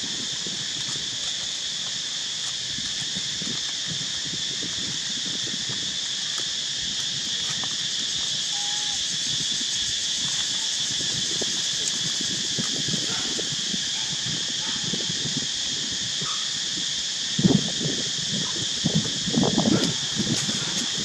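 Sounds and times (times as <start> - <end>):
dry leaves rustling: 0.0 - 16.0, 19.1 - 21.0
insect chorus drone: 0.0 - 21.0.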